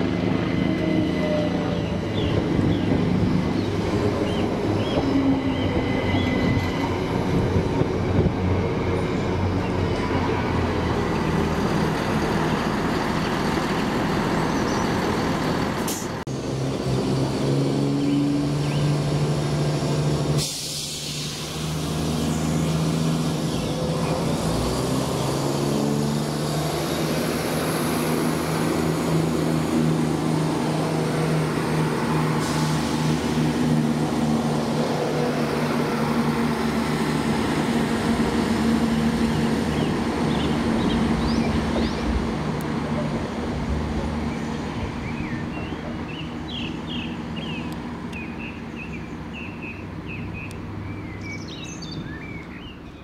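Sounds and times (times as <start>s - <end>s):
diesel train engine running: 0.0s - 49.4s.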